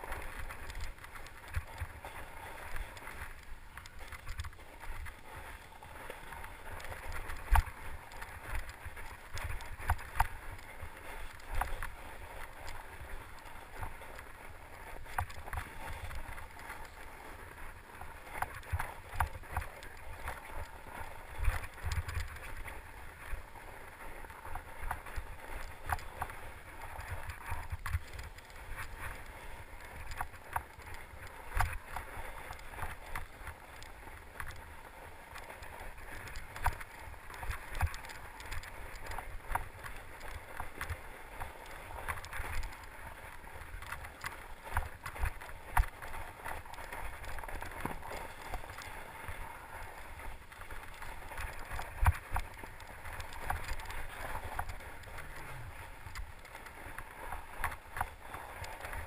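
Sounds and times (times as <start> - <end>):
bike rattling: 0.0 - 59.0.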